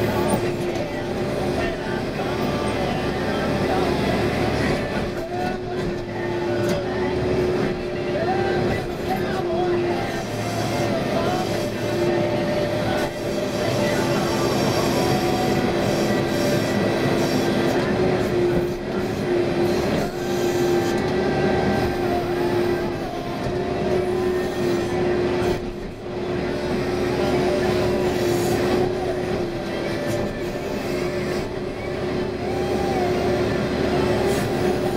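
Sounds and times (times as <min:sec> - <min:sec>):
diesel engine under load: 0:00.0 - 0:34.9
steady whine: 0:00.0 - 0:34.9.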